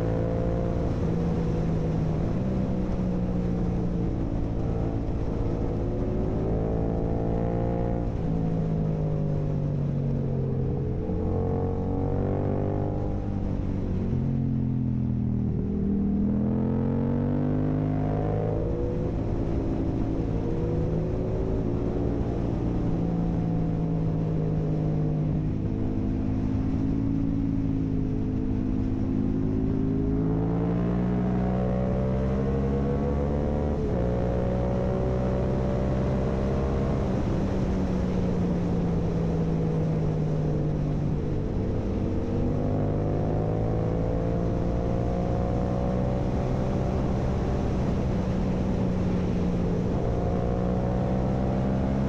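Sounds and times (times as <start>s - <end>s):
motorcycle engine while riding: 0.0s - 52.0s.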